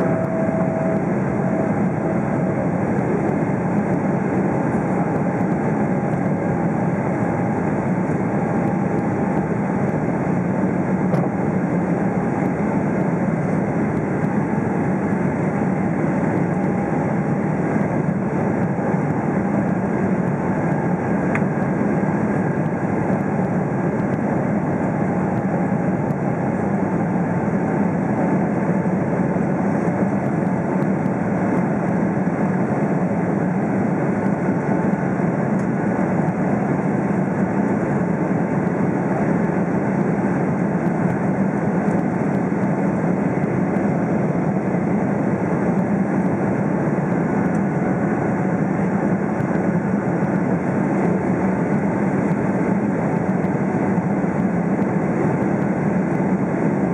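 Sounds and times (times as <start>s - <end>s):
airplane cabin engine drone: 0.0s - 56.9s
faint steady whine: 0.0s - 56.9s.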